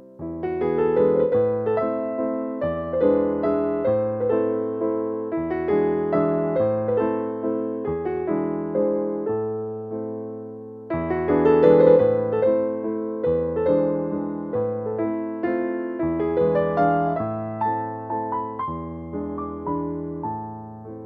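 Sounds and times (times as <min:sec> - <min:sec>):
slow gentle piano music: 0:00.0 - 0:21.0.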